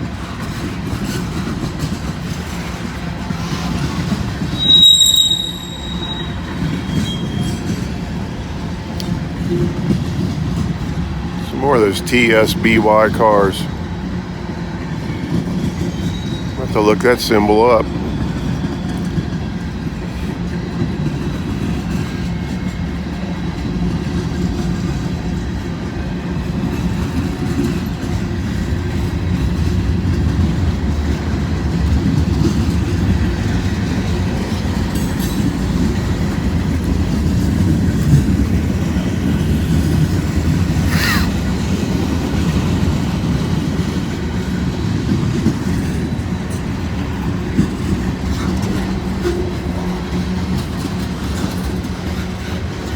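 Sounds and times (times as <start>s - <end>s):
wheel clatter over rail joints: 0.0s - 11.6s, 18.2s - 52.9s
freight train rumbling past: 0.0s - 52.9s
train wheel squeal: 0.2s - 8.5s, 14.1s - 16.6s, 17.8s - 52.9s.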